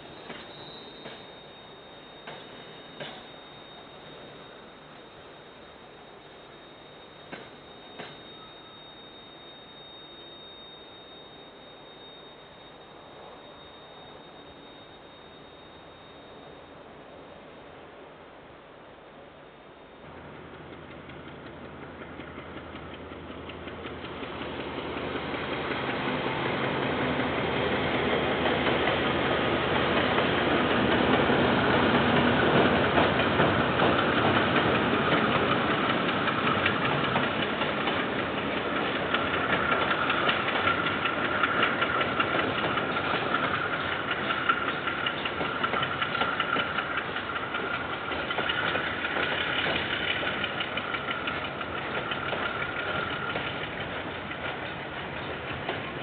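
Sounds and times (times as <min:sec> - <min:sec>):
diesel train passing: 0:00.0 - 0:19.0, 0:19.8 - 0:56.0
steady high whine: 0:00.0 - 0:56.0.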